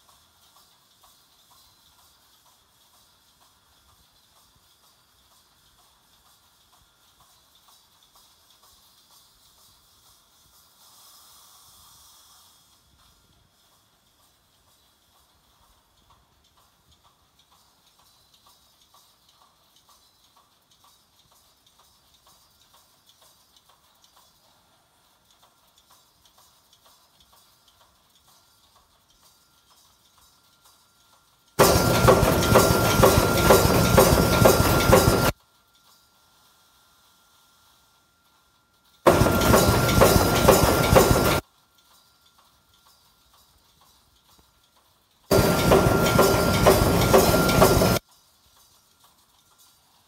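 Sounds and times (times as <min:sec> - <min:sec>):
welding machine clacks: 0:00.0 - 0:11.3, 0:12.2 - 0:36.2, 0:38.4 - 0:50.0.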